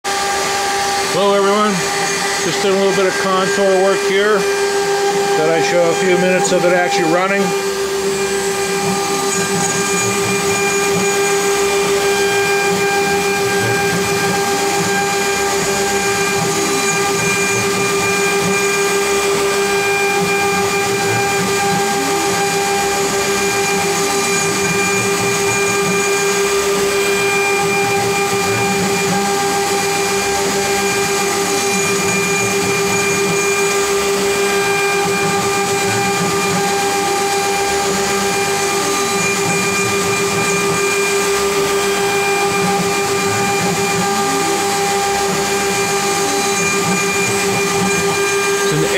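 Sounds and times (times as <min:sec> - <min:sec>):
router spindle motor whine: 0:00.0 - 0:48.9.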